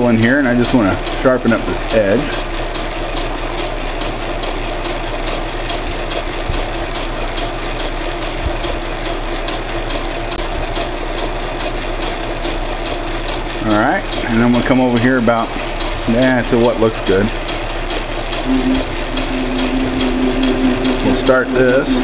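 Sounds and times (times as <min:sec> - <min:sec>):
metal lathe humming: 0:00.0 - 0:22.0
light regular ticking: 0:00.4 - 0:22.0.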